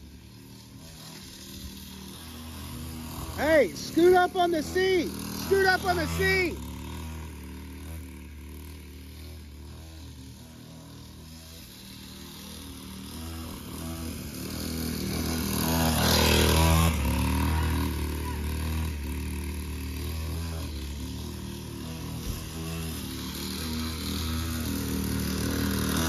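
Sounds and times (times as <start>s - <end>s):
dirt bike engine passing: 0.0s - 26.0s.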